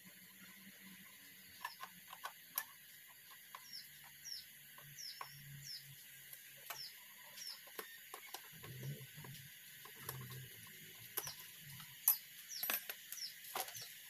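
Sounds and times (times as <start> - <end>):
small bird chirping: 0.3 - 14.0.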